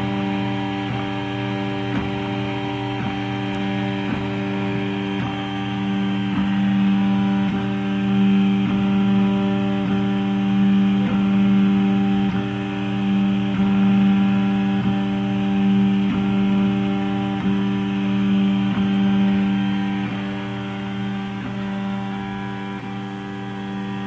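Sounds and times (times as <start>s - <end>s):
three d printer motors humming: 0.0s - 24.0s.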